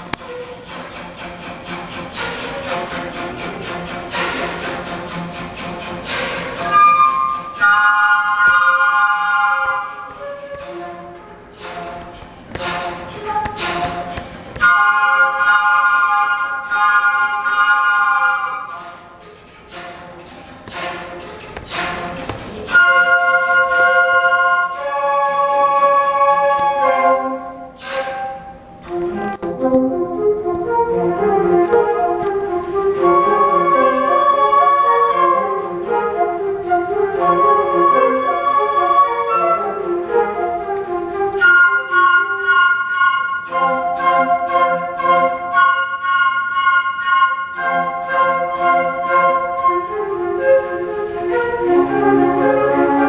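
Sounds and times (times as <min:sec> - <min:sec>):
flute choir playing: 0:00.0 - 0:53.0.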